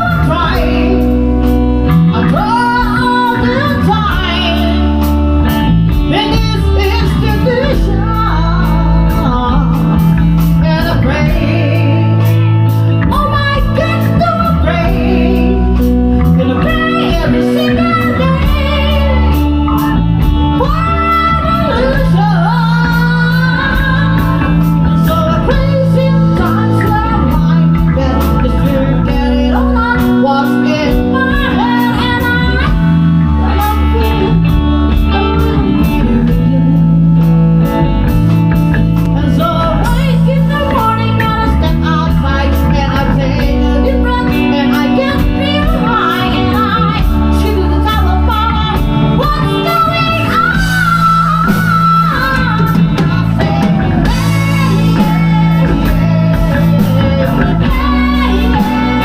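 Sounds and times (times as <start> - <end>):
bass guitar: 0.0 - 59.0
drums: 0.0 - 59.0
electric guitar: 0.0 - 59.0
person singing: 0.0 - 59.0.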